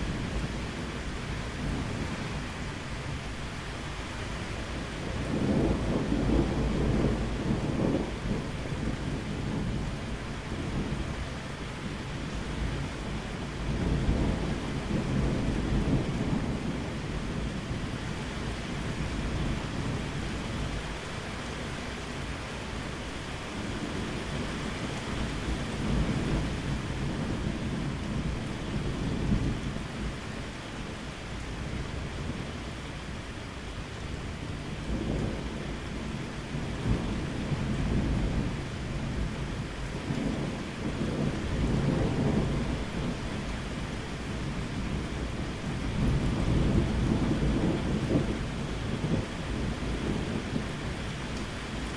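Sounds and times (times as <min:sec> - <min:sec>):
low rolling thunder: 0:00.0 - 0:51.9
steady rain: 0:00.0 - 0:51.9.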